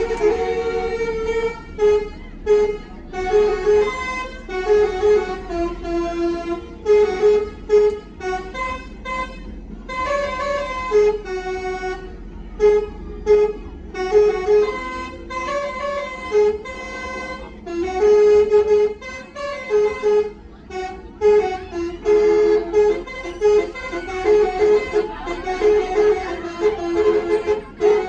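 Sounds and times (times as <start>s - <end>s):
bus engine low hum: 0.0s - 28.0s
musical bus horn tune: 0.0s - 28.0s.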